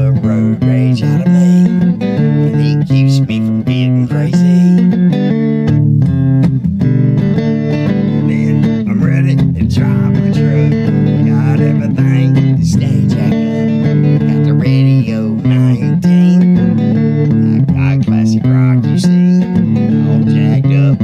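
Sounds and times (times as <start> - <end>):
bass guitar line: 0.0 - 21.0
slow country guitar music: 0.0 - 21.0.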